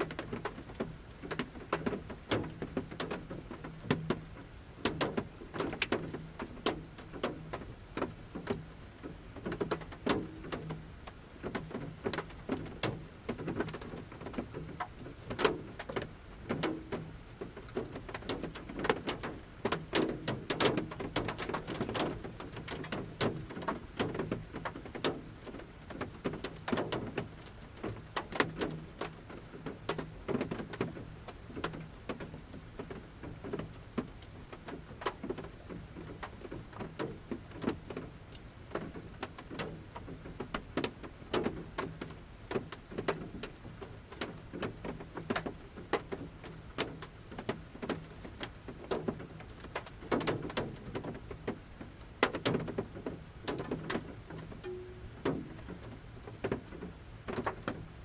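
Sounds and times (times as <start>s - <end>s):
raindrops tapping on van roof: 0.0s - 58.0s.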